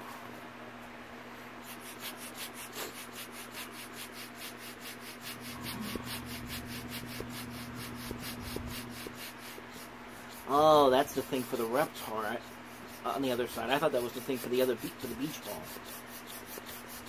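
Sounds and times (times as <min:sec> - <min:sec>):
steady low hum: 0:00.0 - 0:17.0
fast even scratching: 0:01.6 - 0:17.0
hand rubbing inflatable ball: 0:01.8 - 0:17.0.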